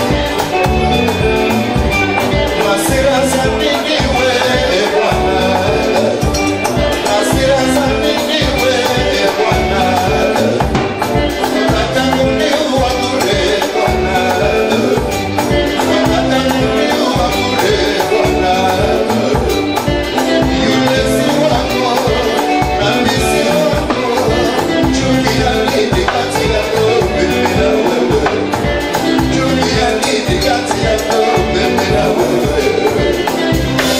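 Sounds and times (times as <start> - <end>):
live band playing dance music: 0.0 - 33.9.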